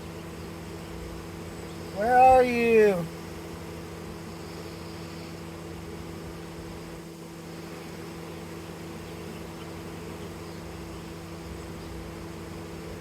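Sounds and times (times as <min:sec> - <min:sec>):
bee swarm humming: 0:00.0 - 0:13.0.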